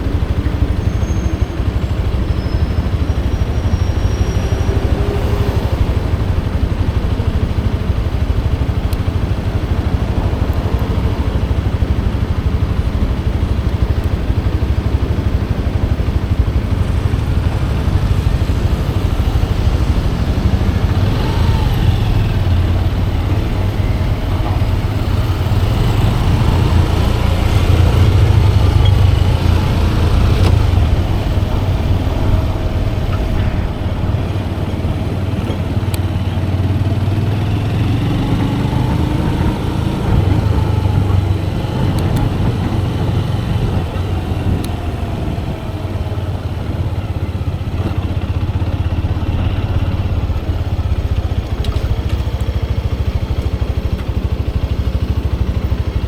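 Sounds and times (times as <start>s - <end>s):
motorcycle engine rumble: 0.0s - 56.0s.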